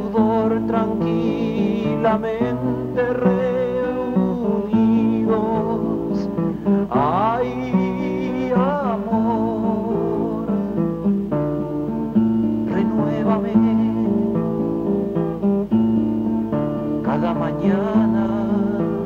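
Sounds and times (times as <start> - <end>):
man singing: 0.0 - 15.0, 16.8 - 19.0
plucked acoustic guitar: 0.0 - 19.0.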